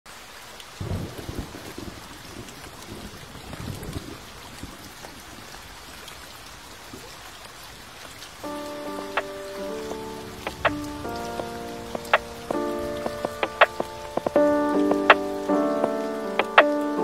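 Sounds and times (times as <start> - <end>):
steady rain: 0.1 - 17.0.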